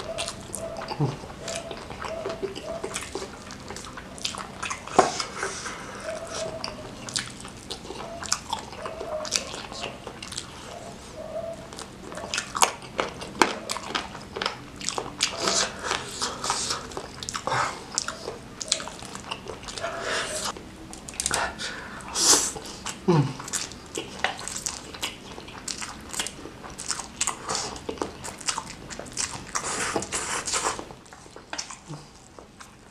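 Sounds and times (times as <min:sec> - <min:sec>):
biting and wet chewing: 0:00.0 - 0:32.9
food crackling: 0:00.0 - 0:32.9
lip smacks: 0:00.0 - 0:32.9.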